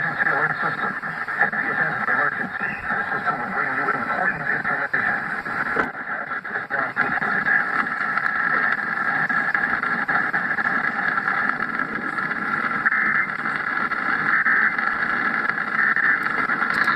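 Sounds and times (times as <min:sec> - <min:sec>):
static hiss from speaker: 0:00.0 - 0:16.9.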